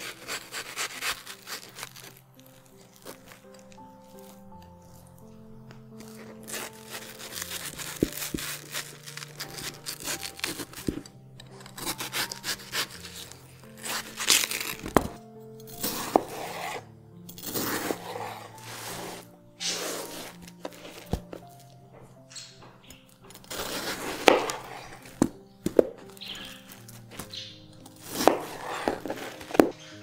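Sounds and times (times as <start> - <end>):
knife slicing watermelon: 0.0 - 2.2, 6.0 - 15.2, 15.8 - 16.8, 17.4 - 21.5, 22.4 - 29.9
soft background music: 0.0 - 30.0.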